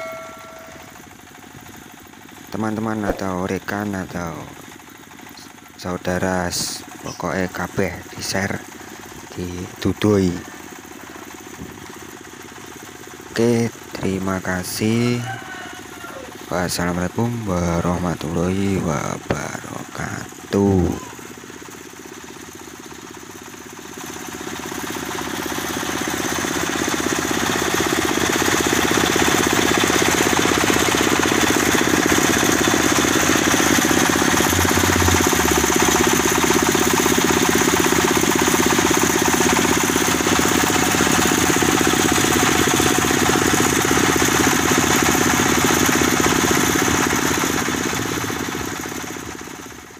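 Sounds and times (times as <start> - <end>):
diesel engine running: 0.0 - 15.2, 15.8 - 49.9.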